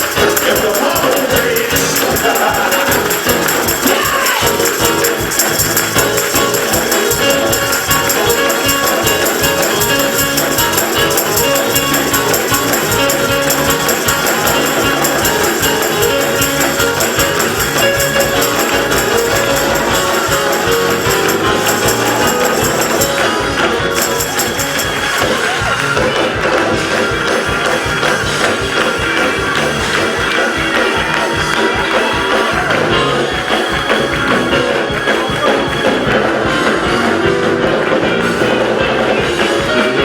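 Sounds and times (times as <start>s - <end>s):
gospel music: 0.0s - 40.0s
tambourine shaken rhythmically: 0.0s - 40.0s.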